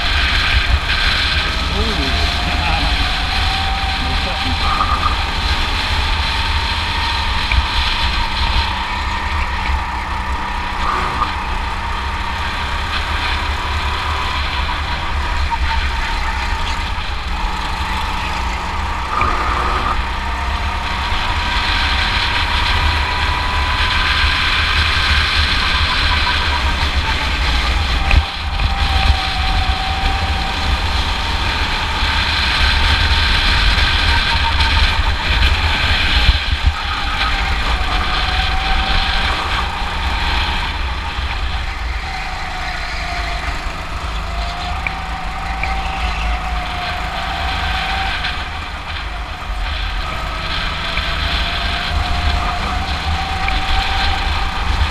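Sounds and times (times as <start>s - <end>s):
go-kart engine droning: 0.0s - 54.9s
heavy low rumble: 0.0s - 54.9s.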